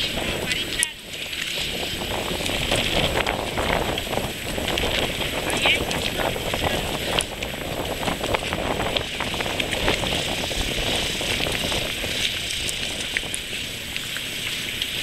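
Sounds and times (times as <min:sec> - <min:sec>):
choppy water hissing: 0:00.0 - 0:15.0
small water splashes: 0:00.0 - 0:15.0
wind buffeting microphone: 0:00.0 - 0:15.0.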